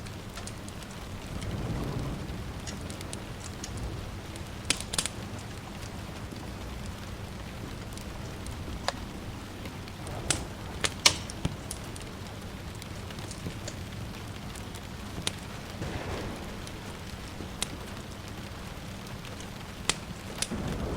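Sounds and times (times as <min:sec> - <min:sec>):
rain hiss: 0:00.0 - 0:20.9
wood fire crackling: 0:00.0 - 0:20.9
sharp pops of fire: 0:00.1 - 0:20.9.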